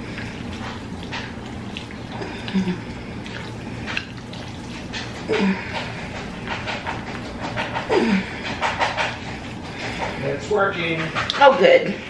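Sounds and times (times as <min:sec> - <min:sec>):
chopsticks stirring wet noodles: 0:00.0 - 0:12.0
low steady hum: 0:00.0 - 0:12.0.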